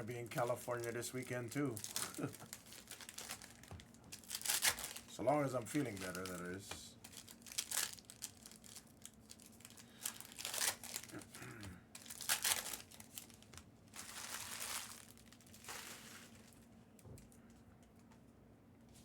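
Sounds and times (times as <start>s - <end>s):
foil packs crinkling and ripping: 0.1s - 16.7s.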